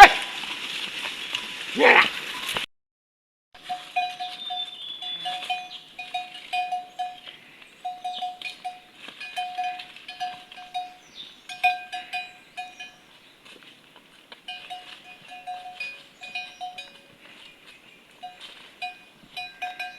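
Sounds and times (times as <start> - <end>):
sheep bells clinking: 3.6 - 19.9.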